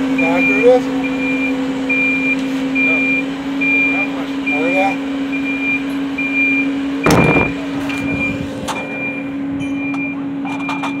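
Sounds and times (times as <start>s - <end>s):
engine hum: 0.0s - 11.0s
reversing alarm beeping: 0.0s - 11.0s.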